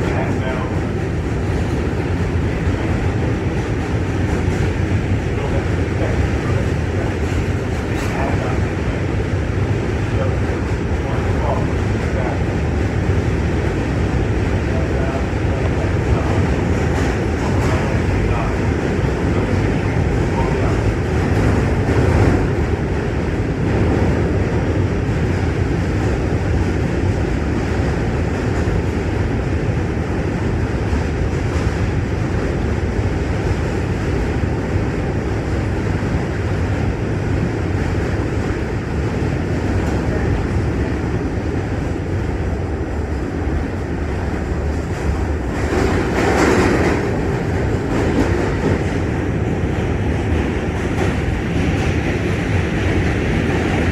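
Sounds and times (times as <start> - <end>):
subway wheels rumbling on rail: 0.0 - 53.9.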